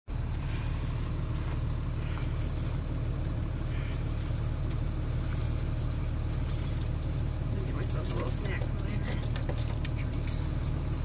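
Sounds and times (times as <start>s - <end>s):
diesel engine idling: 0.1s - 11.0s.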